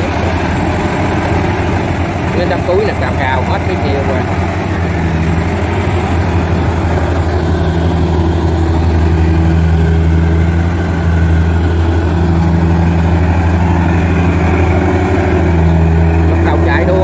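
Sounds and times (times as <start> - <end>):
combine harvester machinery drone: 0.0 - 17.0.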